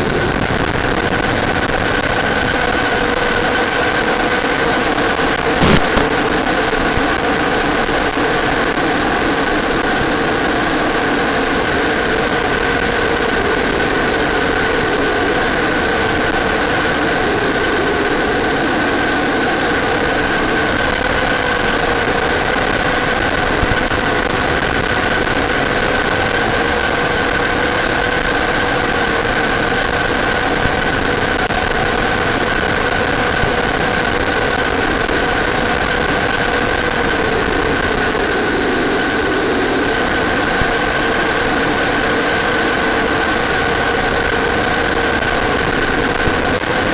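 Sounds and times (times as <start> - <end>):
model jet engine whine: 0.0 - 46.9.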